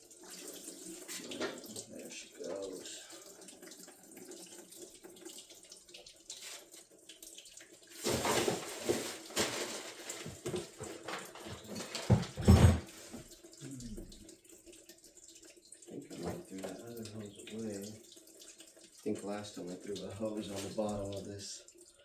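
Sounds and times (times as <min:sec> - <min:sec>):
liquid pouring into a pan: 0:00.0 - 0:22.0.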